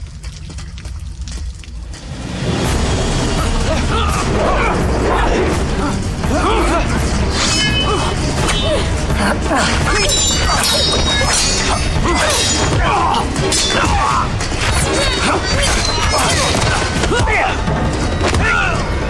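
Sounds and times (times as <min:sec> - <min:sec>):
film soundtrack music: 0:00.0 - 0:19.0.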